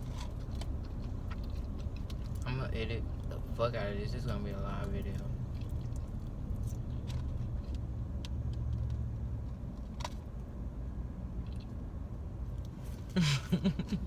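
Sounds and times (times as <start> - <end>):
car rumble from inside cabin: 0.0 - 14.0.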